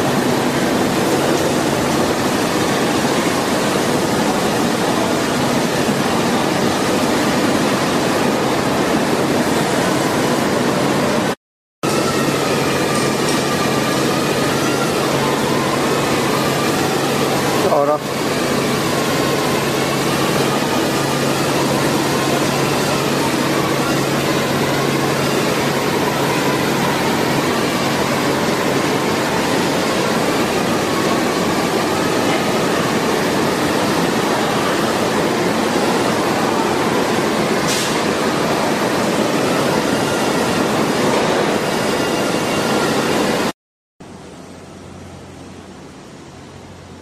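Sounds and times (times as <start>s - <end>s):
factory machinery rushing: 0.0s - 43.5s.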